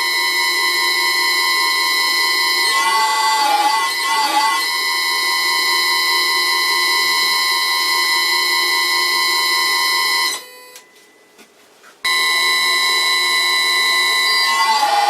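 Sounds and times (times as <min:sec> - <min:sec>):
lathe motor whining: 0:00.0 - 0:10.4, 0:12.1 - 0:15.0.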